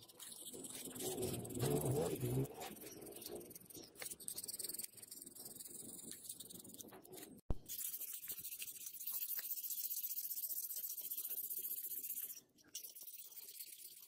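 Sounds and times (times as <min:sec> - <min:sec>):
sandpaper rubbing on wood: 0:00.0 - 0:12.4.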